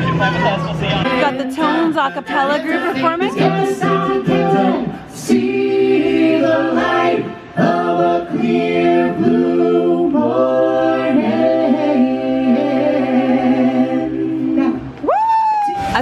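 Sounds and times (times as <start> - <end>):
a cappella group singing: 1.0 - 15.1.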